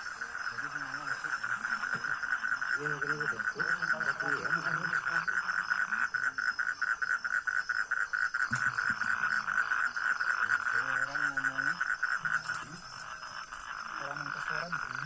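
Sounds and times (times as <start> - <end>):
faint voices: 0.0 - 6.8, 8.5 - 15.0
frogs calling in chorus: 0.0 - 15.0.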